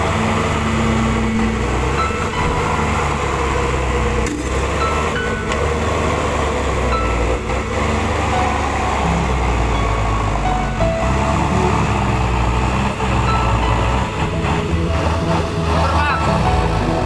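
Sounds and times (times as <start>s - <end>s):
truck engine under load: 0.0s - 17.0s
wheels churning through mud: 0.0s - 17.0s.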